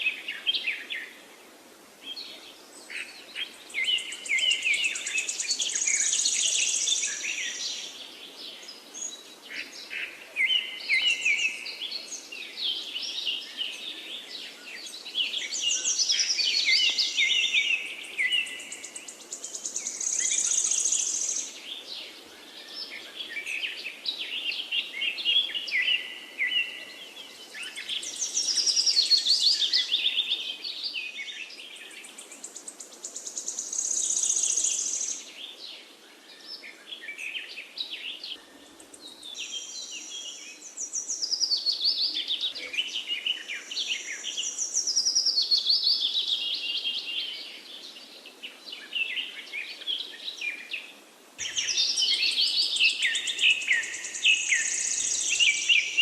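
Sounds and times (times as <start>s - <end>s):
faint steady hiss: 0.0s - 56.0s
songbirds singing: 0.0s - 56.0s.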